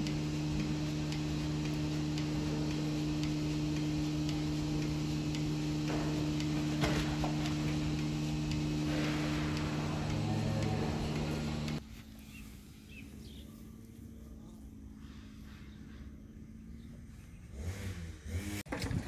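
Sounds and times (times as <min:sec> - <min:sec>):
milking machine pulsators ticking: 0:00.0 - 0:18.6
steady machine hum: 0:00.0 - 0:18.6.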